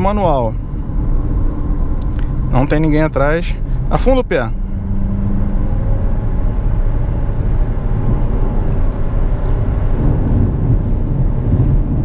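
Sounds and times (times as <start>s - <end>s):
car engine pulling hard: 0.0s - 12.0s
road and tyre noise: 0.0s - 12.0s.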